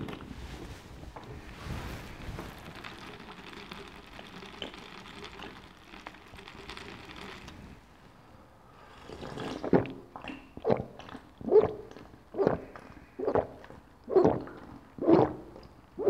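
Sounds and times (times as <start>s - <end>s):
person gulping a drink: 0.0s - 0.4s, 1.2s - 7.8s, 8.8s - 16.0s.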